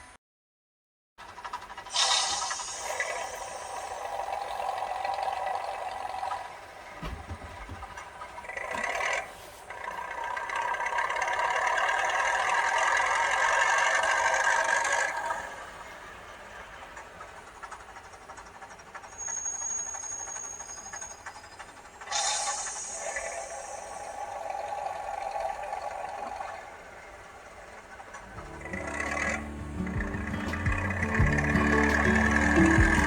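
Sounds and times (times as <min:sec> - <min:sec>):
model railcar engine sound: 0:01.2 - 0:33.0.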